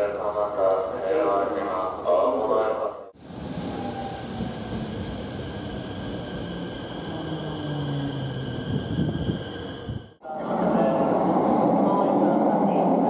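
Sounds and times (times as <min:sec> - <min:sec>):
high steady train whines: 0:00.0 - 0:13.0.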